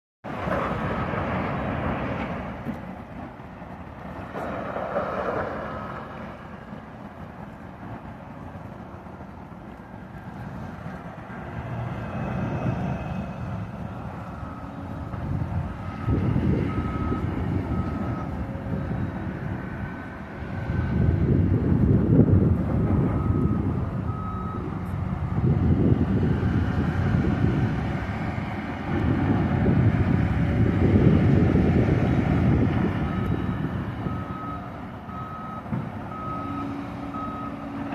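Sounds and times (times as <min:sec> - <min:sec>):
heavy machinery rumbling: 0:00.3 - 0:37.9.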